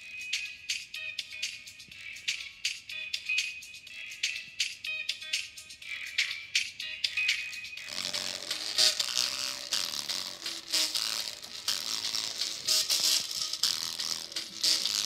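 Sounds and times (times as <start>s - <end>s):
tinny music through tweeter: 0.0s - 15.0s.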